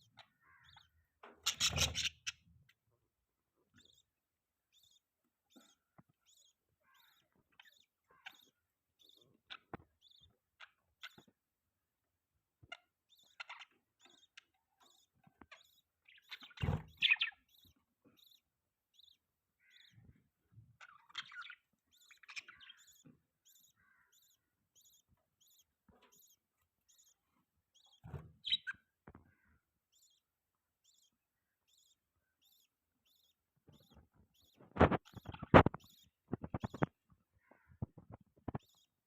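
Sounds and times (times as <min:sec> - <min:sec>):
budgies chirping: 0:00.0 - 0:11.4, 0:12.5 - 0:39.0.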